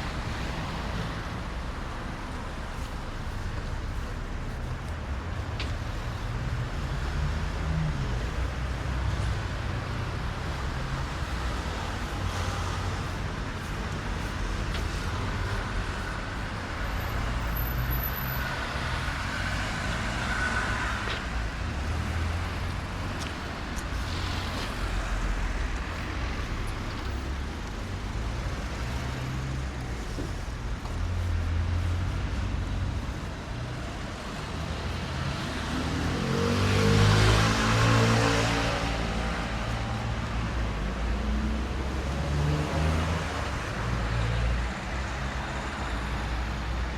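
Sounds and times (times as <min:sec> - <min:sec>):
low rumble of engines: 0:00.0 - 0:46.9
tyres on wet road: 0:00.0 - 0:46.9.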